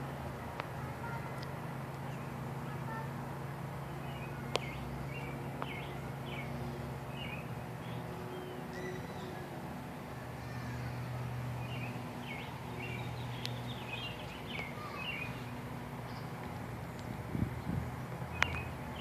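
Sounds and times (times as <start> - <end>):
birds chirping: 0.7 - 19.0.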